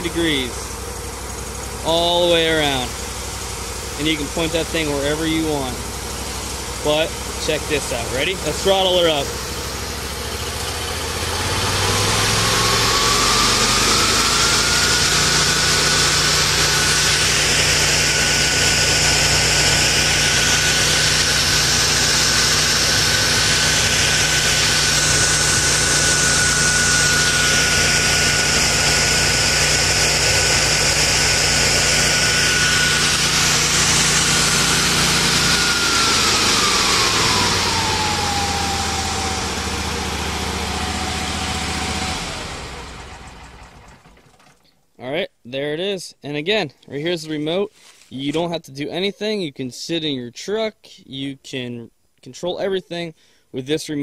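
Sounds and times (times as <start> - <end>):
debris blower whine: 0.0 - 44.6.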